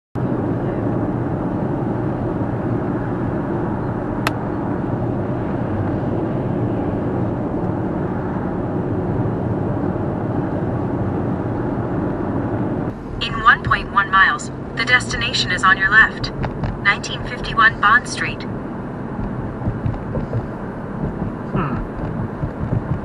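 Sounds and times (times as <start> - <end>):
car road and tyre noise: 0.2 - 23.0.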